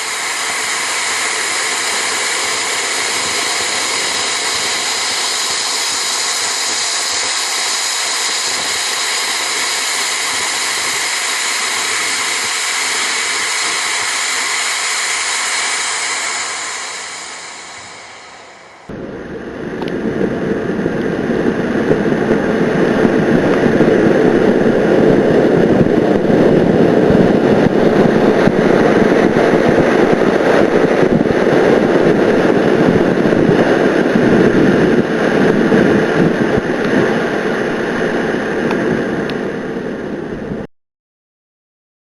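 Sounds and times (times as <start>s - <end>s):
rocket motor rushing: 0.0s - 40.0s.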